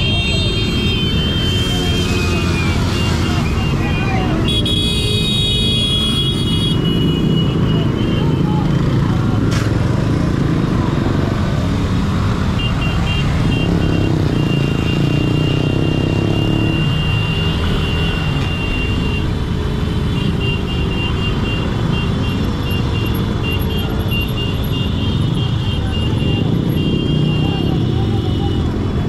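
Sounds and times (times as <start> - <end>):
other motorcycles in traffic: 0.0 - 29.0
road and wind noise: 0.0 - 29.0.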